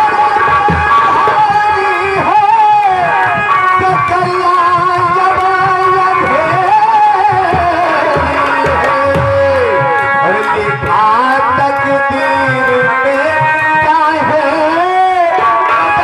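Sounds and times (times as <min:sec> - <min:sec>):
drumming: 0:00.0 - 0:16.0
instrumental accompaniment: 0:00.0 - 0:16.0
man singing into microphone: 0:00.0 - 0:16.0.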